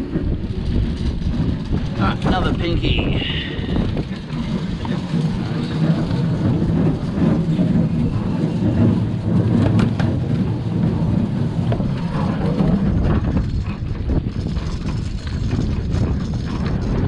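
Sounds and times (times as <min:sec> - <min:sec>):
boat engine rumbling: 0:00.0 - 0:17.0
wind buffeting microphone: 0:00.0 - 0:17.0.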